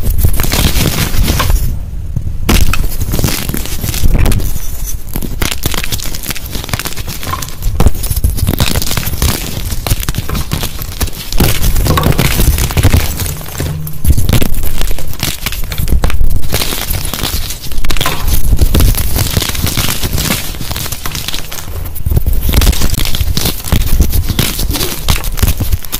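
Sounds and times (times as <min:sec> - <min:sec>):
chalk crunching: 0:00.0 - 0:01.7, 0:02.5 - 0:25.9.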